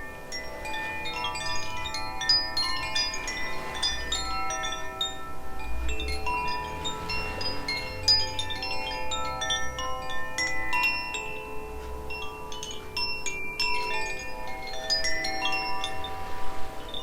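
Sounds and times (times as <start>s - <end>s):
wind chimes tinkling: 0.0s - 17.0s.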